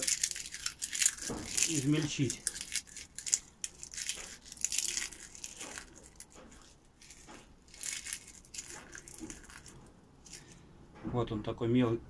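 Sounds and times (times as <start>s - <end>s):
dried leaves crackling: 0.0s - 10.6s.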